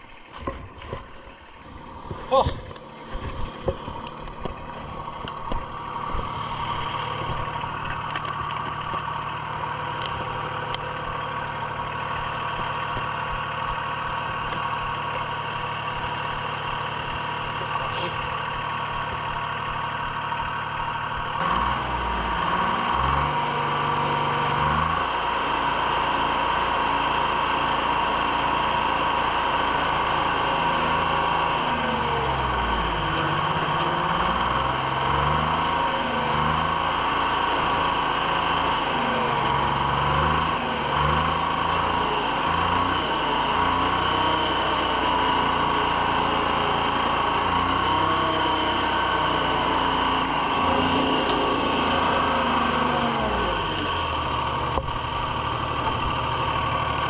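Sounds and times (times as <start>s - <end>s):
skidder diesel engine revving: 0.0s - 57.0s.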